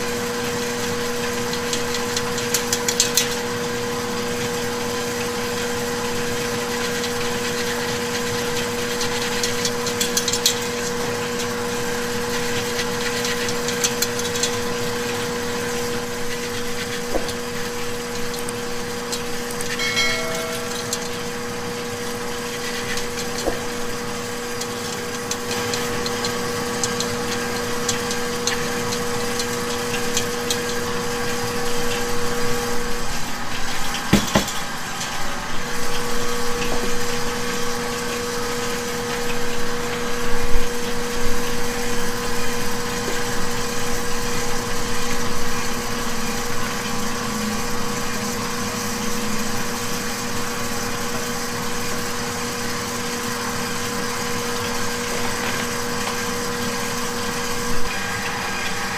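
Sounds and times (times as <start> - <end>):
kitchen machinery humming: 0.0 - 58.9.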